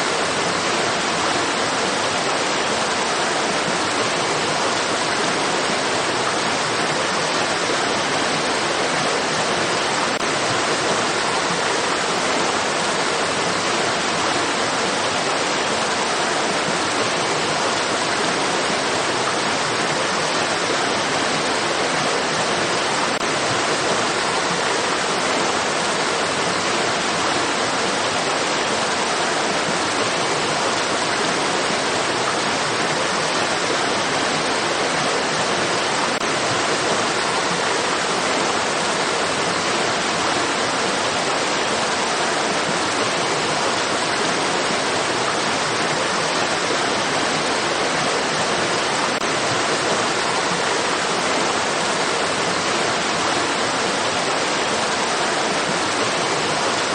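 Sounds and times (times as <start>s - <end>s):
stream water rushing: 0.0s - 56.9s.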